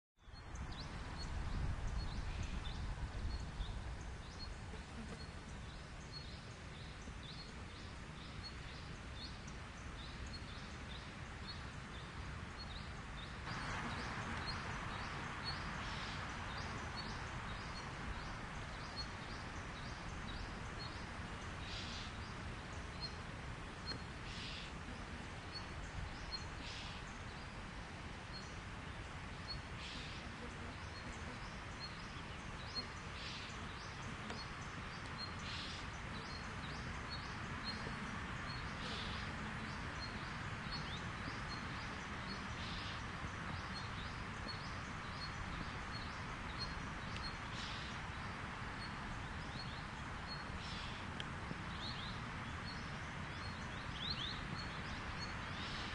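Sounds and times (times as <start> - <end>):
steady hiss: 0.4 - 55.9.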